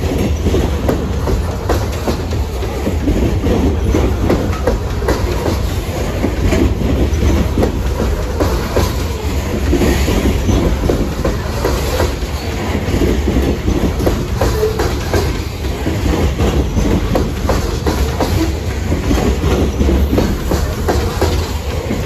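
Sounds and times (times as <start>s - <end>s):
low train rumble: 0.0s - 22.0s
train wheels clattering: 0.0s - 22.0s.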